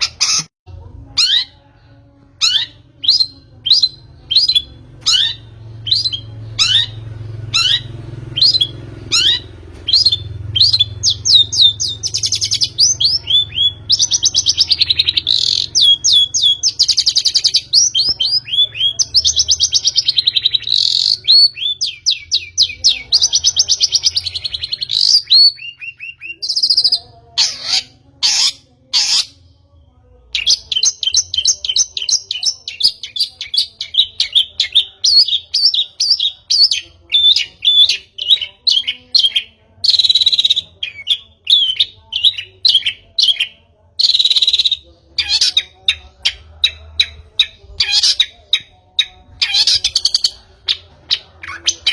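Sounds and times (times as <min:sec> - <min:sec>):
shrike singing: 0:02.3 - 0:29.6, 0:30.2 - 0:51.9.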